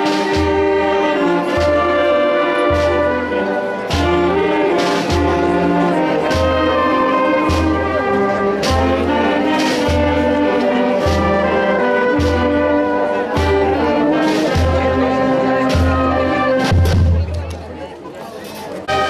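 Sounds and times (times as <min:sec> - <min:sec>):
drum and cymbal beat: 0:00.0 - 0:17.3
wind band playing a march: 0:00.0 - 0:17.4.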